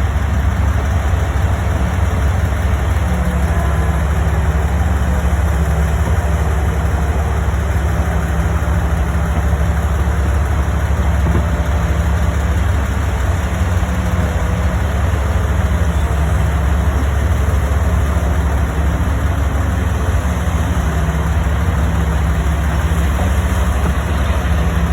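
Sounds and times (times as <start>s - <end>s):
heavy diesel machinery humming: 0.0s - 24.9s.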